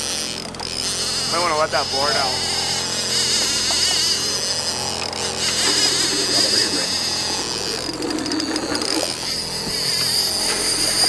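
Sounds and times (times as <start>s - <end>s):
boat motor running: 0.0s - 11.0s
fishing reel whirring and clicking: 0.0s - 11.0s.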